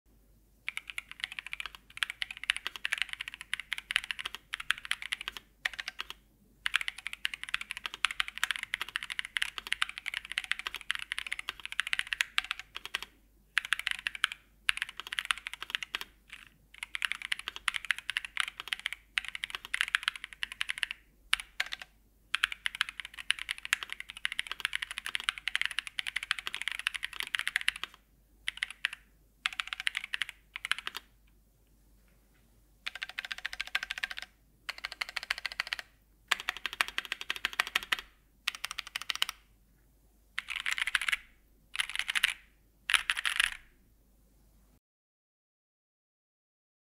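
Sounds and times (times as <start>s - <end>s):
mechanical keyboard typing: 0.7s - 31.1s, 32.8s - 39.4s, 40.4s - 43.7s.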